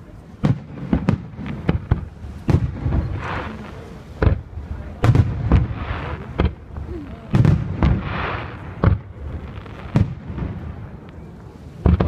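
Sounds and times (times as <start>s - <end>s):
crackling firework glitter: 0.0s - 12.0s.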